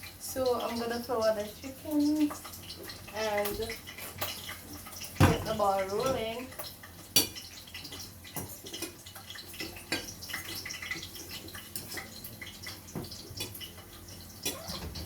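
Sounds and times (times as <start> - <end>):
hot oil crackling and popping: 0.0 - 15.0.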